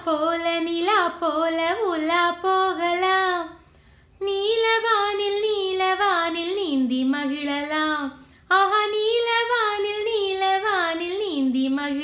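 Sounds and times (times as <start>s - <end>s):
woman singing unaccompanied: 0.0s - 3.6s, 4.2s - 12.0s.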